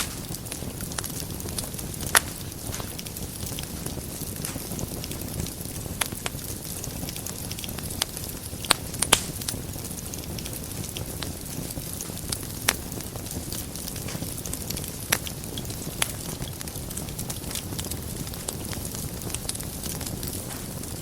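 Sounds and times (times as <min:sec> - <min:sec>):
fireplace fire rumbling: 0:00.0 - 0:21.0
wood fire crackles and pops: 0:00.0 - 0:21.0.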